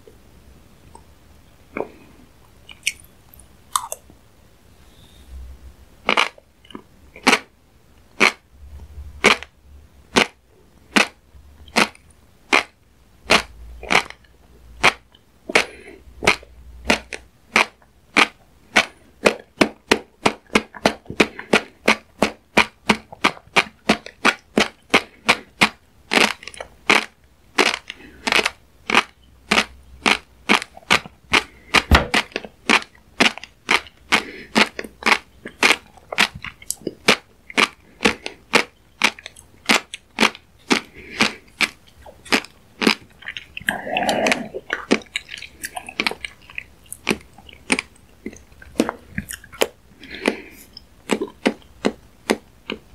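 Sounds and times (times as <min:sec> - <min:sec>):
person clicking with mouth: 0:02.7 - 0:03.1, 0:10.1 - 0:52.9.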